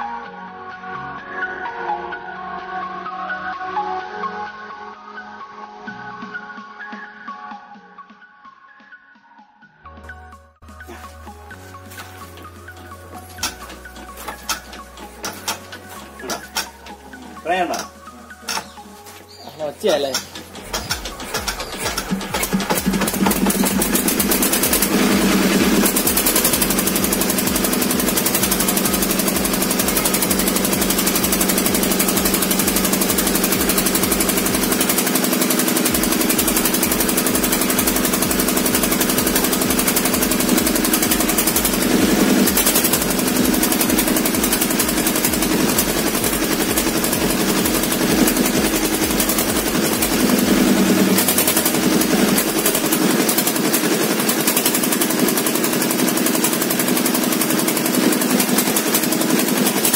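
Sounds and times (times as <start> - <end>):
diesel engine knocking: 11.3 - 59.9.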